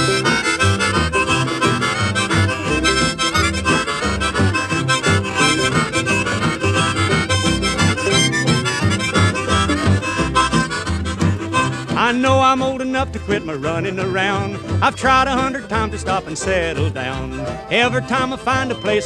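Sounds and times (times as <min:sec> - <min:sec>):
bass line: 0:00.0 - 0:19.0
free-reed lead melody: 0:00.0 - 0:19.0
steady drum beat: 0:00.0 - 0:19.0.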